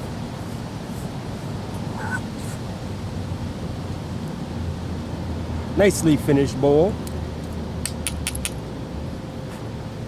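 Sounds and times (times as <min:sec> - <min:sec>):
outdoor rumble and hiss: 0:00.0 - 0:10.0.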